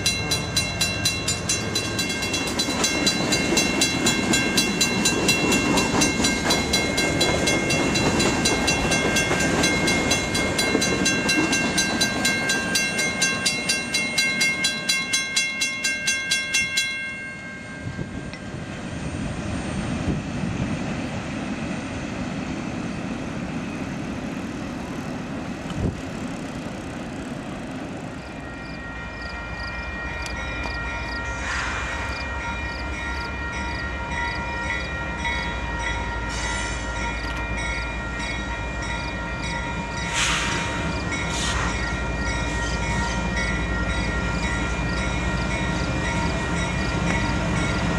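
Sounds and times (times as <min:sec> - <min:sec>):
crossing bell ringing: 0:00.0 - 0:19.3, 0:28.2 - 0:47.9
freight train cars rumbling: 0:00.0 - 0:47.9.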